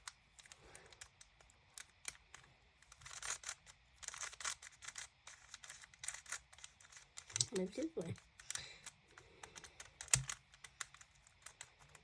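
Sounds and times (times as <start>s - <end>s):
plastic puzzle cube clicking: 0.0s - 12.0s.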